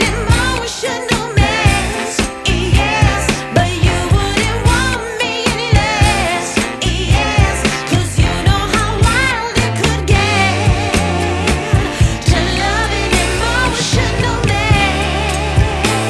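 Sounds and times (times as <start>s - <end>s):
song with vocals and beat: 0.0s - 16.0s.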